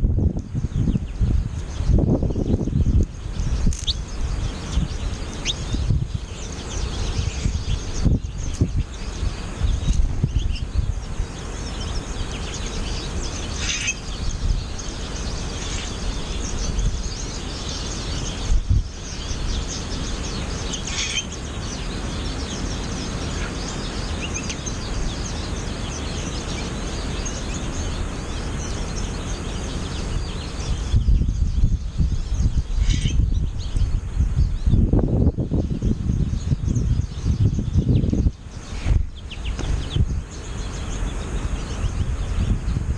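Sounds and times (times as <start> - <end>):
birds chirping: 0.0 - 42.9
wind rumble on microphone: 0.0 - 42.9.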